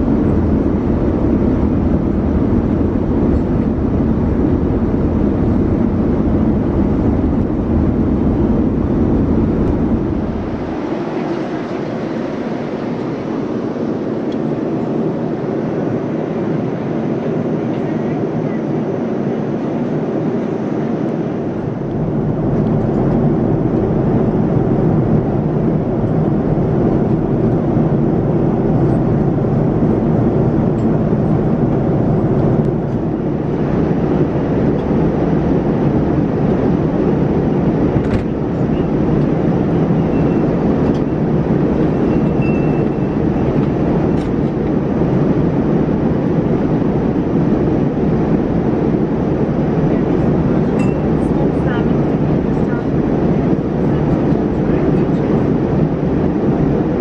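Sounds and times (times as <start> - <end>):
airliner cabin rushing noise: 0.1 - 18.6, 19.7 - 57.0.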